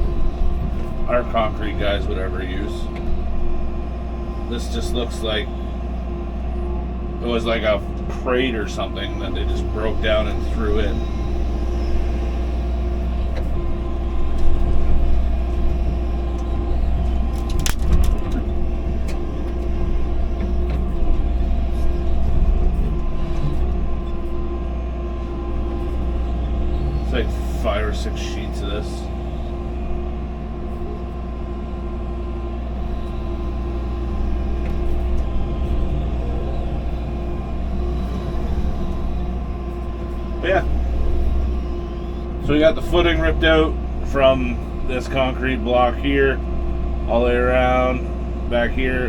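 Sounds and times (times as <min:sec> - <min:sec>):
excavator diesel engine running: 0:00.0 - 0:49.0
hydraulic hum: 0:00.0 - 0:49.0.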